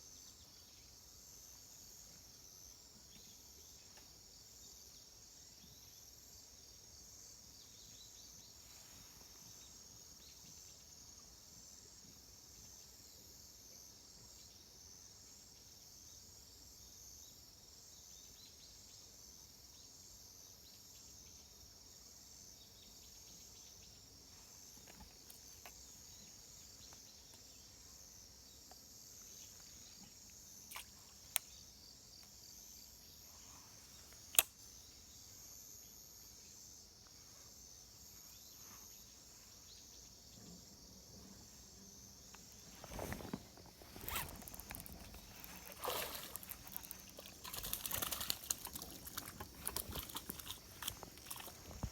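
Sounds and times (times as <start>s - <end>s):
insect chorus chirring: 0.0s - 51.9s.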